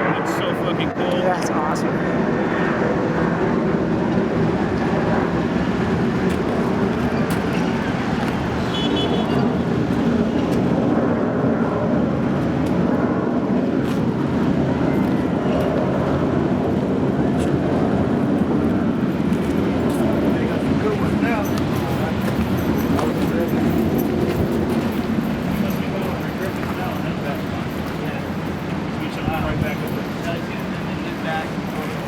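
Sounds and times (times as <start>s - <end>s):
jet engines low rumble: 0.0s - 32.0s.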